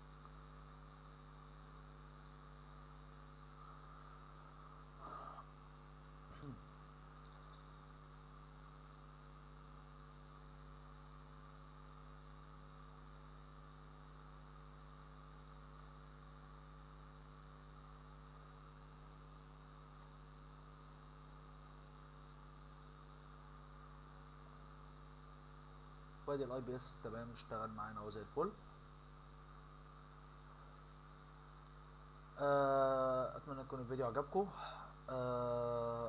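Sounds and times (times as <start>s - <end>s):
faint electrical mains hum: 0.0s - 36.0s.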